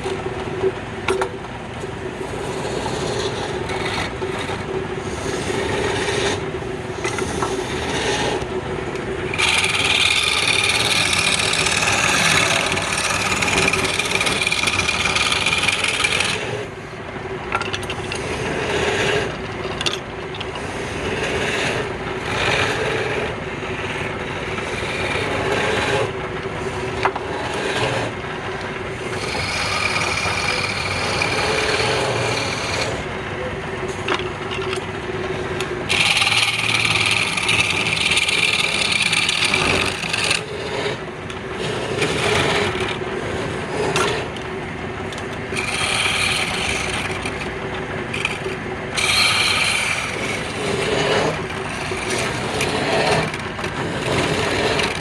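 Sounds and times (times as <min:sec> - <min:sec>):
tool cutting spinning wood: 0:01.1 - 0:55.0
wood lathe humming: 0:01.2 - 0:55.0.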